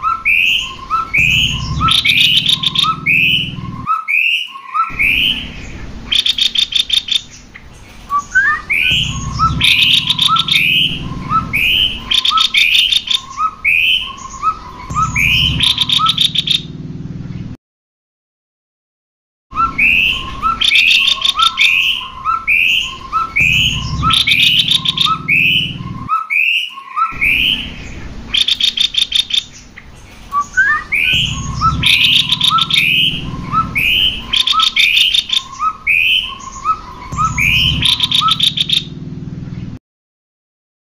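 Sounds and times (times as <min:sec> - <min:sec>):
birds singing whistled notes: 0:00.0 - 0:16.7, 0:19.5 - 0:39.8.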